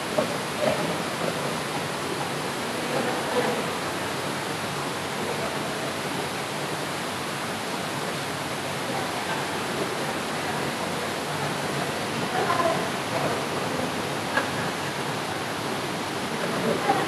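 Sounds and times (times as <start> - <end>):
rushing flowing water: 0.0 - 17.0.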